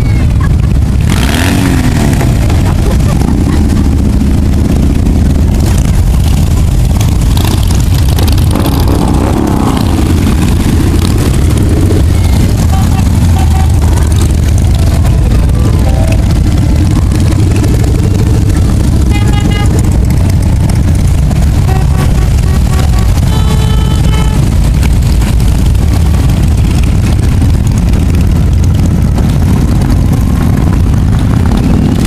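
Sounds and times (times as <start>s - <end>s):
motorcycles riding past: 0.0s - 32.0s.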